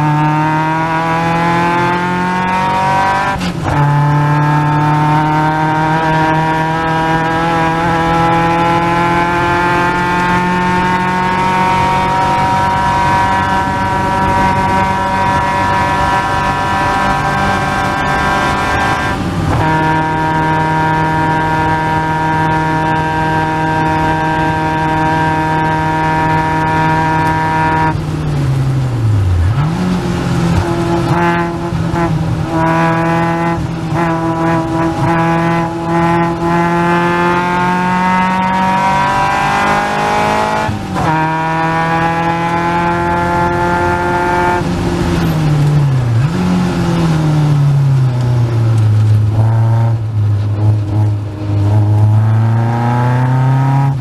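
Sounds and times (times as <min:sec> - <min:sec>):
racing car engine at high revs: 0:00.0 - 0:54.0.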